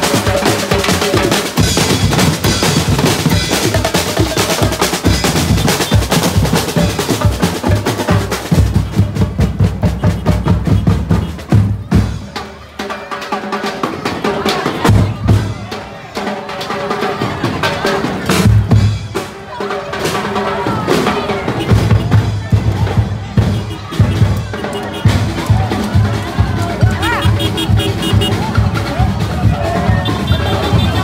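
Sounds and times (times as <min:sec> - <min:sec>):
drums playing fast rhythm: 0:00.0 - 0:31.0.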